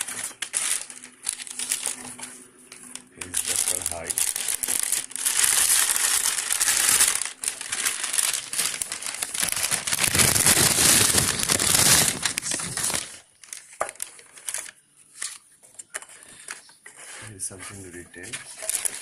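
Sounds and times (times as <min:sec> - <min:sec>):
packaging wrap crinkling: 0:00.0 - 0:19.0.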